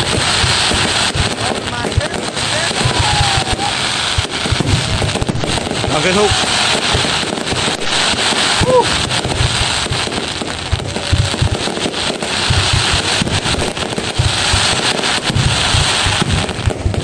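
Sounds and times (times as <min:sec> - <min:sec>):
fireworks bangs and crackling: 0:00.0 - 0:17.0
fireworks low booms: 0:00.0 - 0:17.0.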